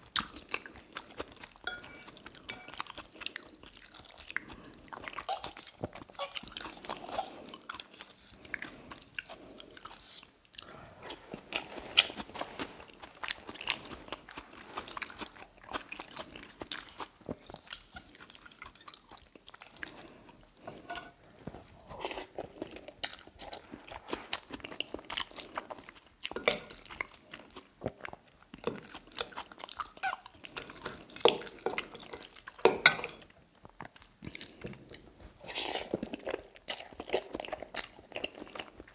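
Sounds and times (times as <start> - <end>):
chewing with mouth clicks: 0.0 - 38.9.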